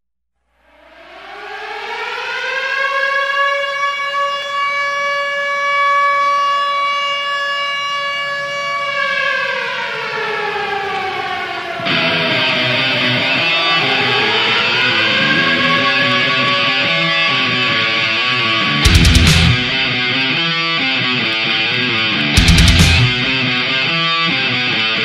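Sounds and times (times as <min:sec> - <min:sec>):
air-raid siren wailing: 0:00.5 - 0:25.0.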